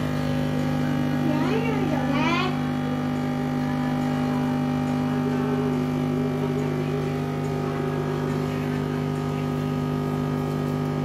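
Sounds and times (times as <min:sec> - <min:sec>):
juicer motor humming: 0:00.0 - 0:11.0.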